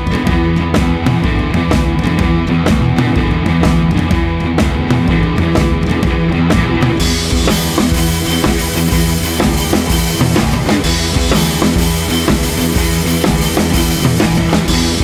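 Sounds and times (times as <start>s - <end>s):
drum kit beat: 0.0s - 15.0s
sustained bass notes: 0.0s - 15.0s.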